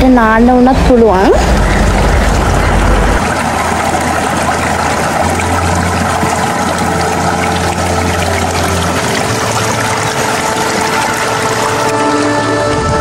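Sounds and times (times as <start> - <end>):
stream rushing over rocks: 1.4 - 13.0.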